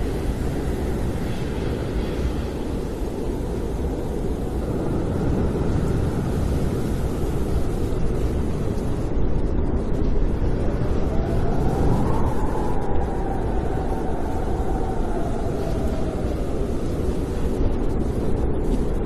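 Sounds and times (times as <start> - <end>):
faint wind whistle: 0.0 - 19.0
snowstorm wind blowing: 0.0 - 19.0.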